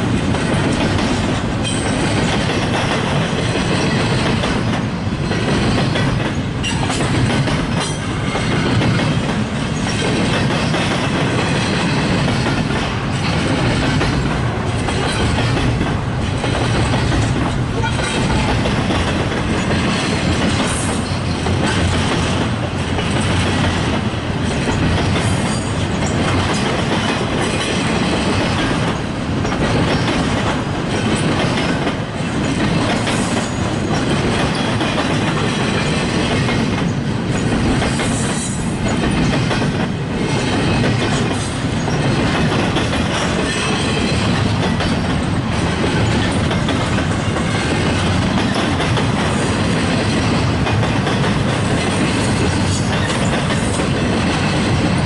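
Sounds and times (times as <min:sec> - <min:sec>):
freight train rumbling past: 0:00.0 - 0:55.0
wheel clatter over rail joints: 0:00.0 - 0:55.0.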